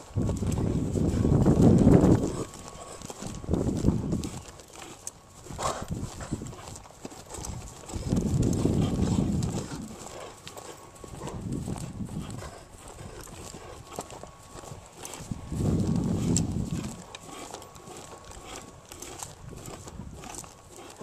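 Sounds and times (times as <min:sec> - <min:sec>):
dog breathing noisily: 0:00.4 - 0:21.0.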